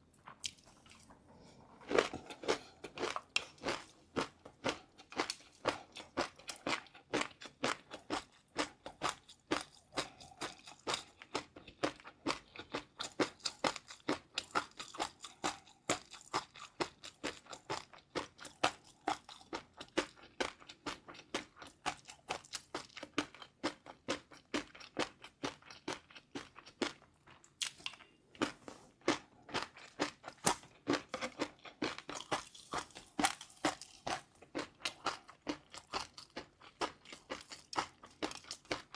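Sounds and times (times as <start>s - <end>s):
chewing crunchy food: 0.1s - 38.9s.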